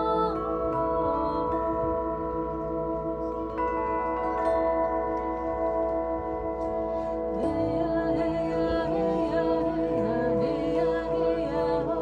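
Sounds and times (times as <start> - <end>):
wavering gliding tones: 0.0 - 12.0.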